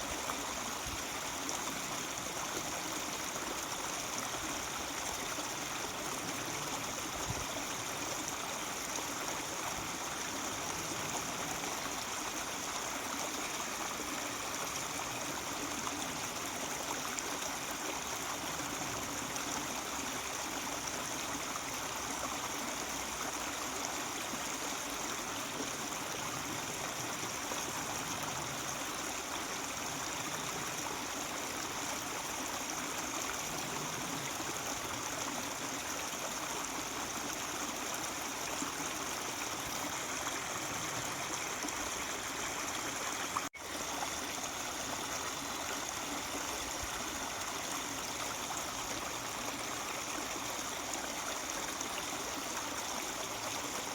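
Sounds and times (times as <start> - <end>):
stream babbling over rocks: 0.0 - 53.9.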